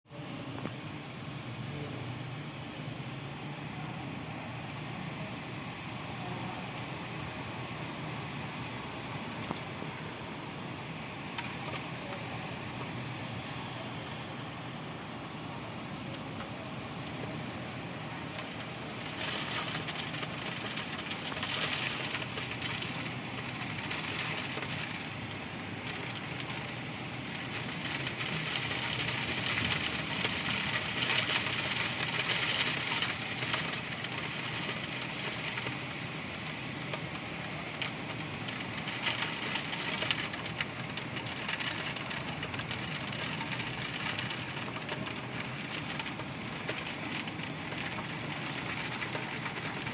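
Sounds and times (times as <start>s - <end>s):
heavy rain pouring: 2.5s - 49.9s.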